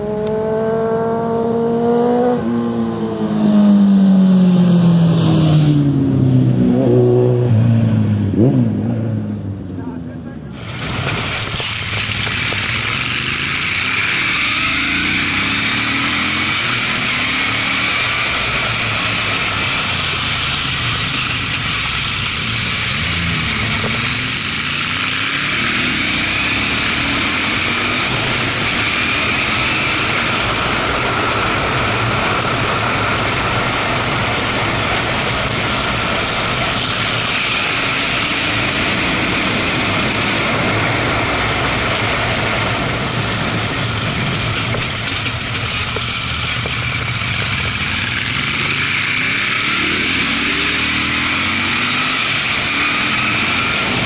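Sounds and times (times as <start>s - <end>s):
motorcycle engine pulling uphill: 0.0s - 54.0s.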